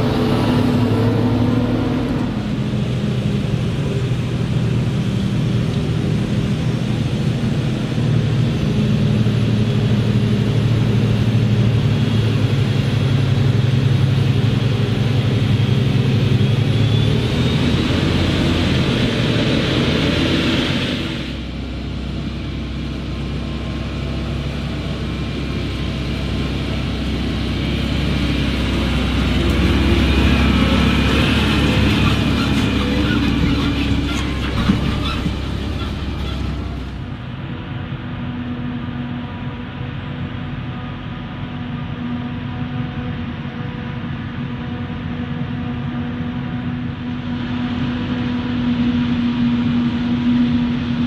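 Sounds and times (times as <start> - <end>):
harvester and tractor droning: 0.0 - 51.0
tractor engine rumble: 0.0 - 51.0.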